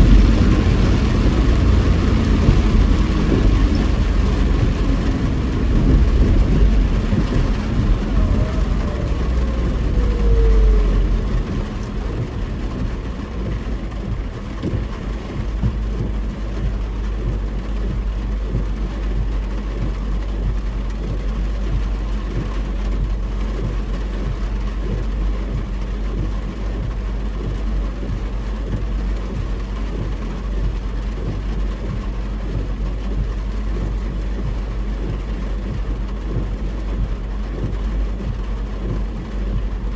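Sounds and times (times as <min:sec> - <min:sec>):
car road and engine rumble: 0:00.0 - 0:39.9
rain on car: 0:00.0 - 0:39.9
wet tyres hissing: 0:00.0 - 0:39.9.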